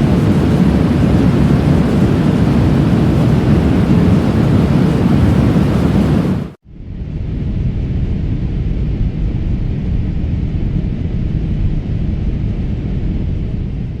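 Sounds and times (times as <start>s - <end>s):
airplane engines rumbling: 0.0s - 14.0s.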